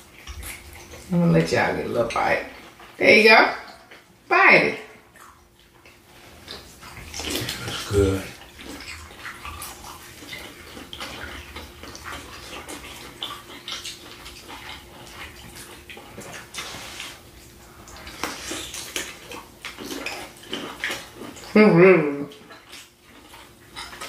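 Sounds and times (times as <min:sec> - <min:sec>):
wet chewing and mouth smacking: 0:00.0 - 0:01.1, 0:05.0 - 0:24.0.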